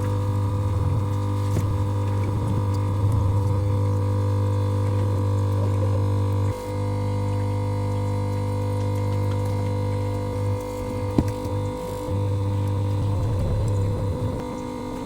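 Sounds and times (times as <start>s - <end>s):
electrical hum with steady tones: 0.0s - 15.0s.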